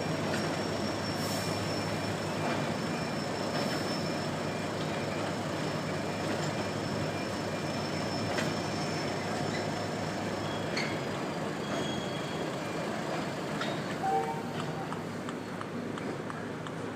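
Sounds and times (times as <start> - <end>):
high wheel squeals: 0.0 - 15.0
freight train rumbling past: 0.0 - 16.9.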